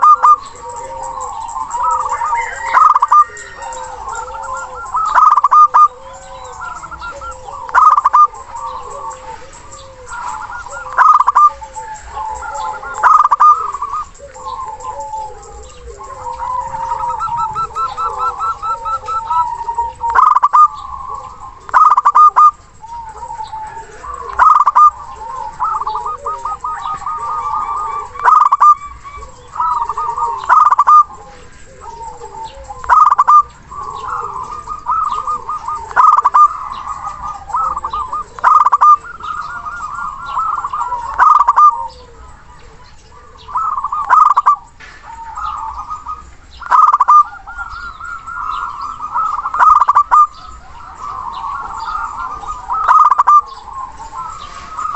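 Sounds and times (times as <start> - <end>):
doves cooing: 0.0 - 54.9
fainter lower bird calls: 0.0 - 54.9.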